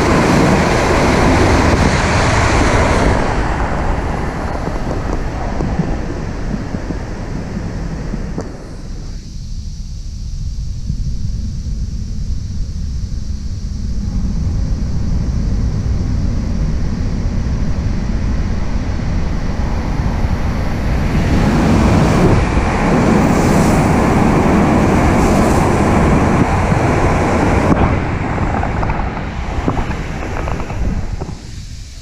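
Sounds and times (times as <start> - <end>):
high-speed train passing: 0.0 - 9.2, 13.9 - 32.0.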